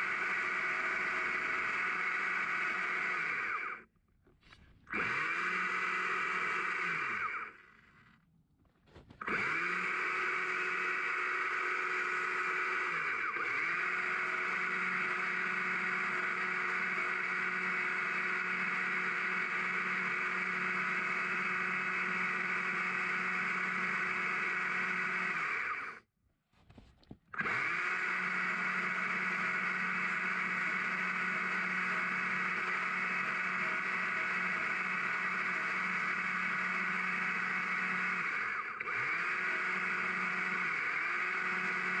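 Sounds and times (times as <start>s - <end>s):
electric chainsaw cutting log: 0.0s - 3.9s, 4.9s - 8.2s, 9.1s - 26.0s, 27.4s - 42.0s.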